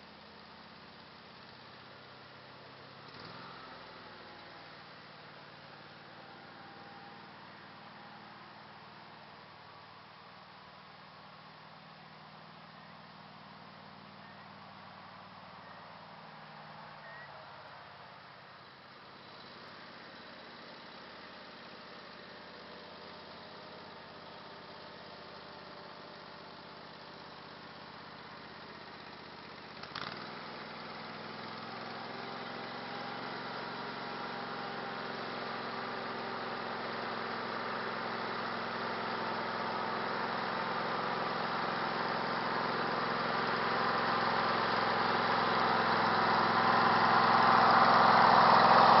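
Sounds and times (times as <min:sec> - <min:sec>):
small vehicle engine running: 0:00.0 - 0:49.0.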